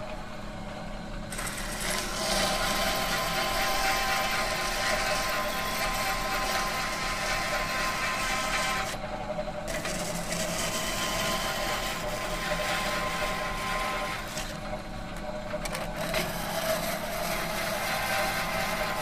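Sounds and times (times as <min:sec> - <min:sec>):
metalworking machinery running: 0:00.0 - 0:19.0.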